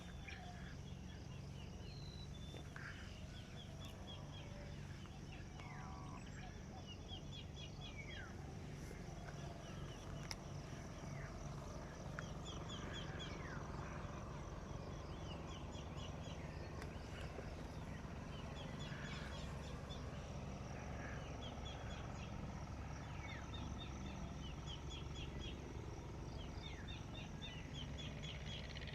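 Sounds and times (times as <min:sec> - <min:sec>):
wild birds calling: 0:00.0 - 0:28.9.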